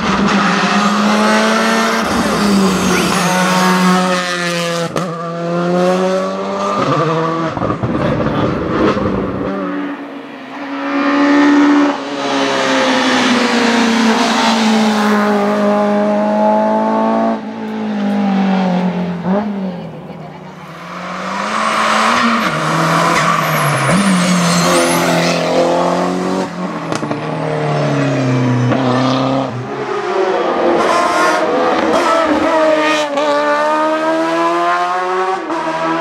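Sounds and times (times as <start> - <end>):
racing car engines revving: 0.0 - 36.0.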